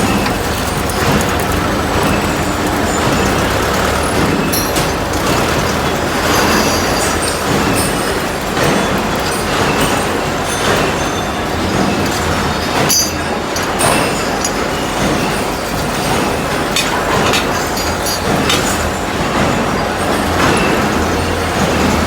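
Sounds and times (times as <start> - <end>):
sharp metallic clinks: 0.0 - 21.4
drilling machine running: 0.0 - 22.0.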